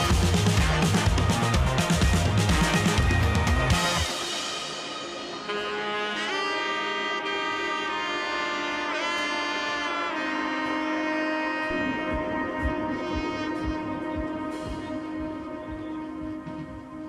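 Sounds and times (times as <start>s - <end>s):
held brass or saxophone notes: 0.0s - 17.0s.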